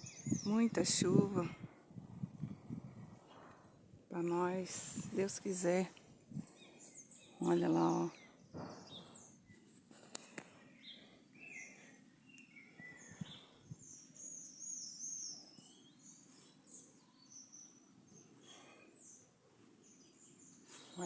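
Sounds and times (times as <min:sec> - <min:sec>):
birds chirping: 0:00.0 - 0:21.0
outdoor background noise: 0:00.0 - 0:21.0.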